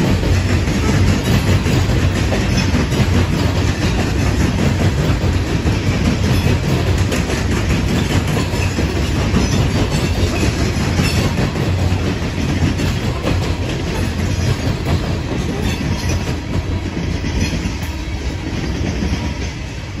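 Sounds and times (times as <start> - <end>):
wheels clacking over track: 0.0 - 19.8
freight train rolling past: 0.0 - 20.0.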